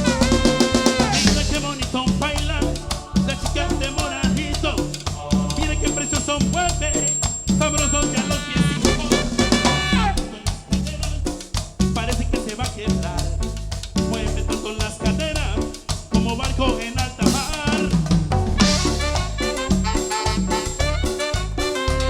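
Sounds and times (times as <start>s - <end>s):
live band playing dance music: 0.0s - 11.9s, 12.5s - 22.0s.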